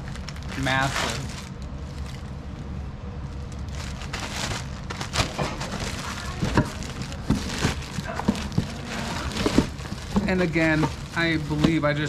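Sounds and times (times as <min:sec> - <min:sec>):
plastic bag crinkling: 0:00.0 - 0:02.3, 0:03.5 - 0:12.0
steady low hum: 0:00.0 - 0:12.0.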